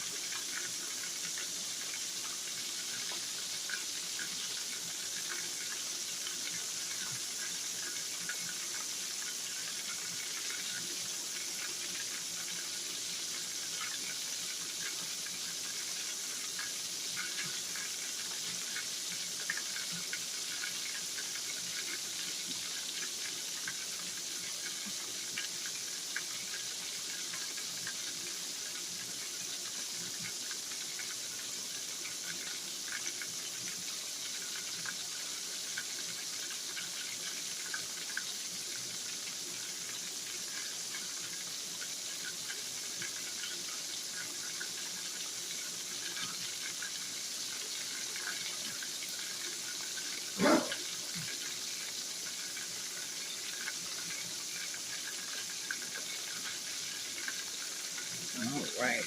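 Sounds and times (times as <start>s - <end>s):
liver sizzling in oil: 0.0s - 59.0s.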